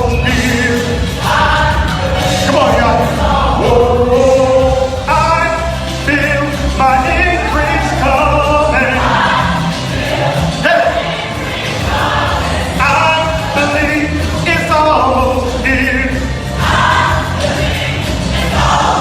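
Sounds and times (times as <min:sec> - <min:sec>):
bass line: 0:00.0 - 0:19.0
gospel choir singing: 0:00.0 - 0:19.0.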